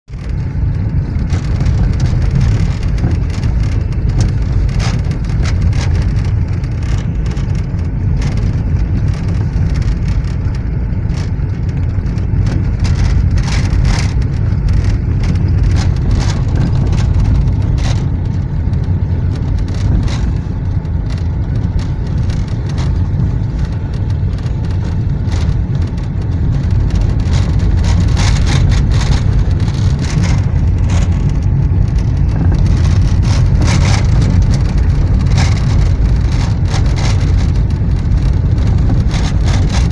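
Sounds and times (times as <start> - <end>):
engine and tyres rumbling: 0.0 - 39.9
rain on windscreen: 0.0 - 39.9.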